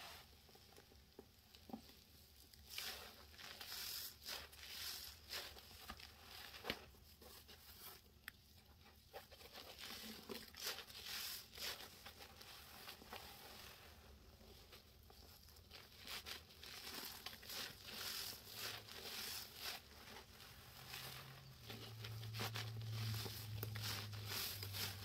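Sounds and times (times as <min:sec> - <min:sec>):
wet sponges squishing in powder: 0:00.0 - 0:25.0.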